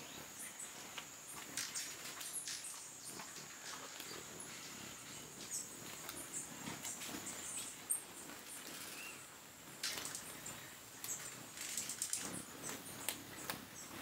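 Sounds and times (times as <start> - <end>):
hummingbird chip calls: 0.0 - 14.0.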